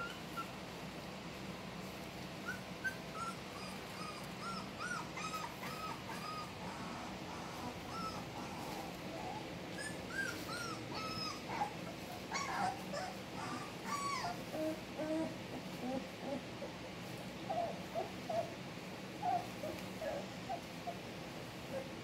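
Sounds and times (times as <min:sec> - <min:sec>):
puppies whimpering and squeaking: 0:00.0 - 0:00.6, 0:02.4 - 0:16.8, 0:17.4 - 0:22.0.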